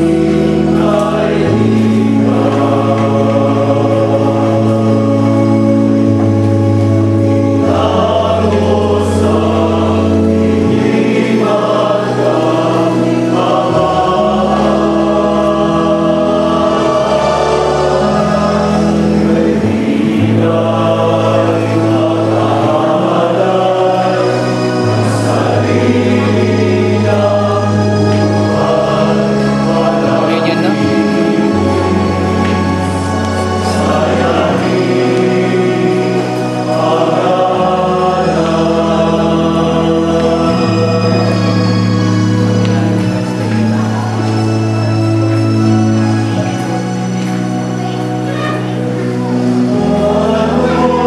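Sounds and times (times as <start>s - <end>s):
choir singing a hymn: 0.0s - 51.0s
sustained organ chords: 0.0s - 51.0s.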